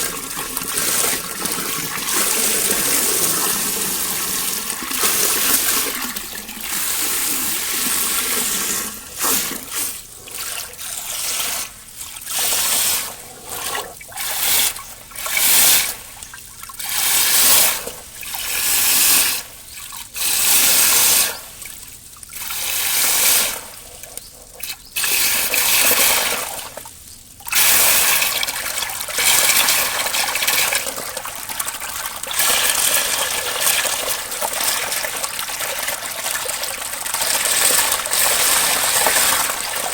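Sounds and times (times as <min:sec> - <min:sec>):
water rippling and sloshing: 0:00.0 - 0:39.9.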